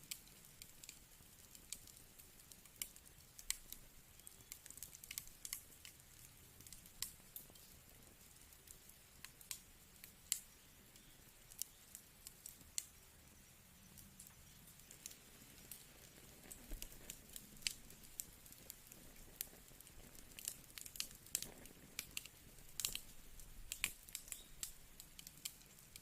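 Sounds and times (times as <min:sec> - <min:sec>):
faint low hiss: 0:00.0 - 0:26.0
wood fire crackling: 0:00.0 - 0:26.0.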